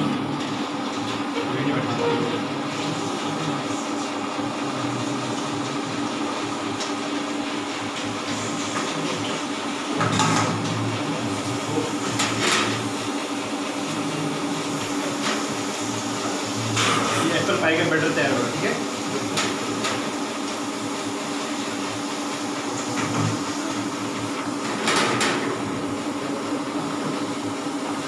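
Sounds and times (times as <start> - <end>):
stand mixer whipping cream: 0.0 - 28.0.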